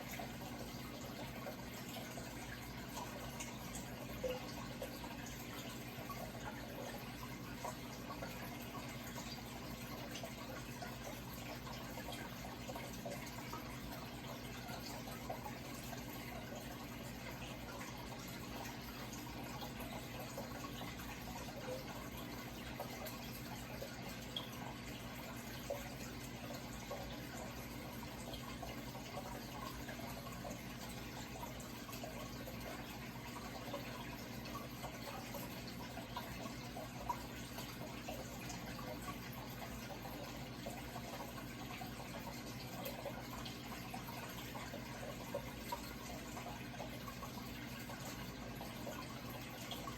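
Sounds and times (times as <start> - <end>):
low steady hum: 0.0 - 49.9
trickle of running water: 0.0 - 49.9
water splashes and drips: 0.0 - 49.9.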